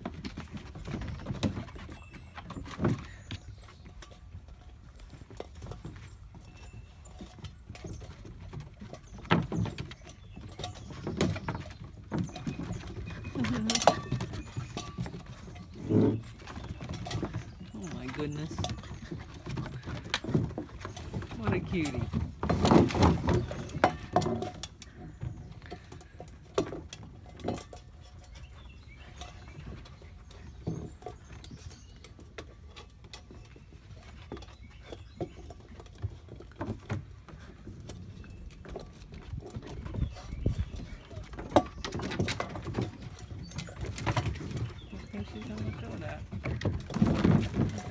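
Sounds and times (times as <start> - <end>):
puppy paws on wooden deck: 0.0 - 47.9.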